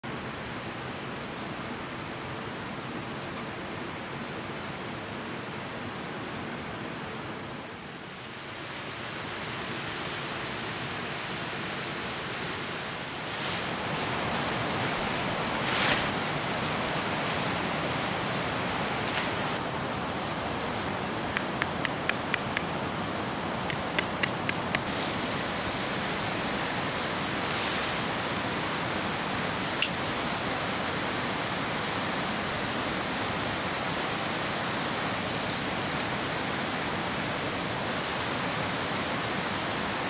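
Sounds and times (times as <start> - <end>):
rushing outdoor ambient noise: 0.0 - 40.0.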